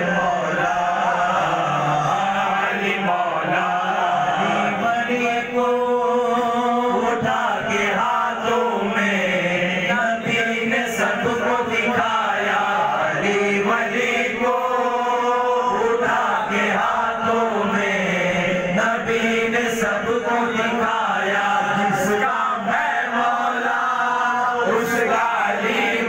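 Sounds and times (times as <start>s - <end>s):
man chanting devotional song: 0.0s - 26.0s.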